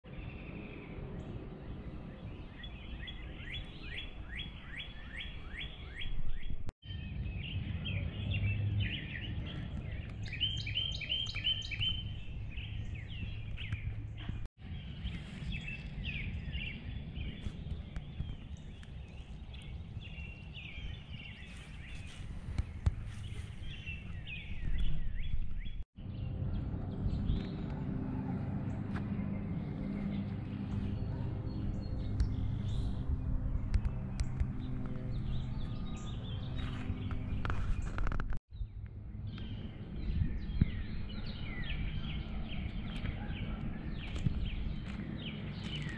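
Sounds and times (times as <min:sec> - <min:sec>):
low outdoor rumble: 0:00.1 - 0:45.9
songbirds chirping: 0:00.1 - 0:45.9.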